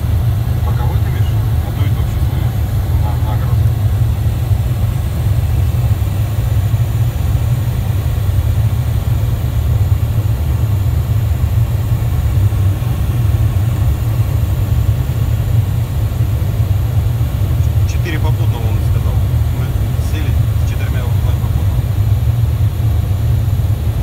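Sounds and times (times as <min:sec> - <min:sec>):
jet cockpit engine rumble: 0:00.0 - 0:24.0.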